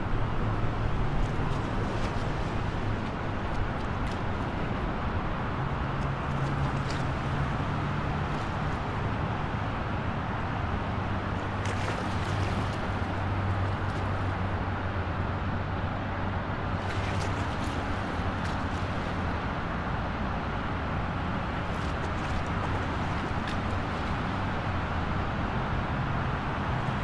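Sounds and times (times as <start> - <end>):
highway traffic rush: 0.0 - 27.0
vehicles passing with a hiss: 0.0 - 27.0.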